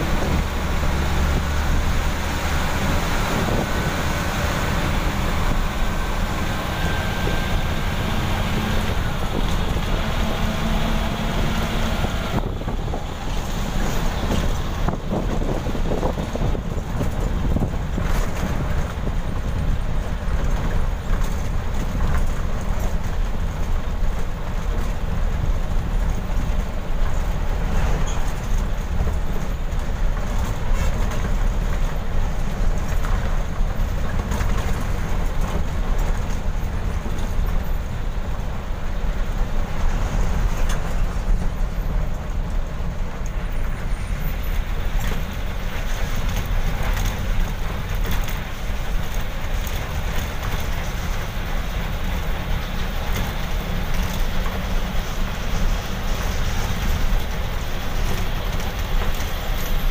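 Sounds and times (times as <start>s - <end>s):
bus engine rumble: 0.0s - 59.9s
road and wind noise: 0.0s - 59.9s.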